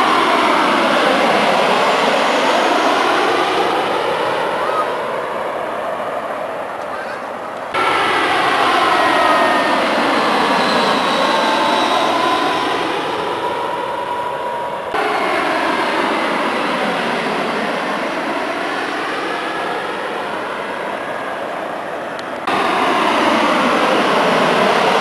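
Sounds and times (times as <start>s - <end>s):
airliner jet engine whine: 0.0s - 25.0s
regional jet engine noise: 0.0s - 25.0s.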